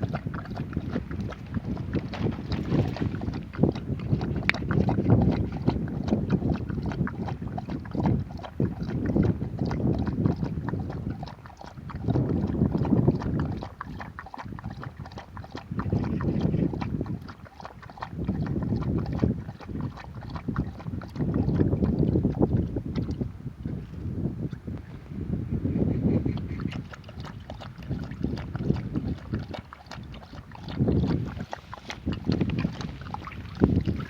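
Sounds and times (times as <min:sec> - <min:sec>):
wind on microphone: 0:00.0 - 0:34.0.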